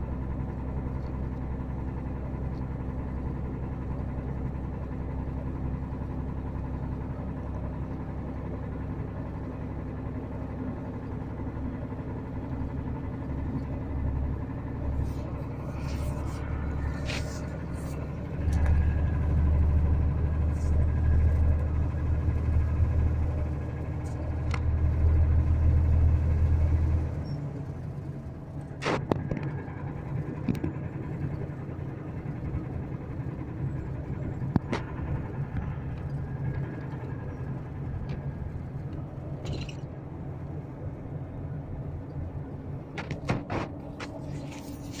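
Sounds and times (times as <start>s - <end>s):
engine knocking: 0.0s - 40.6s
diesel bus engine running: 0.0s - 45.0s.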